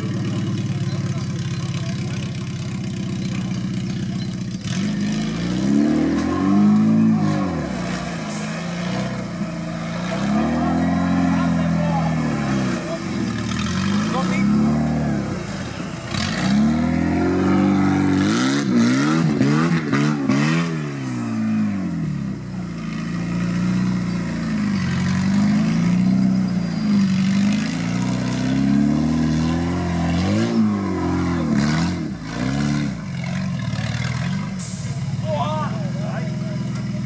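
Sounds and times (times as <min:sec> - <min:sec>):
off-road engine revving: 0:00.0 - 0:37.0.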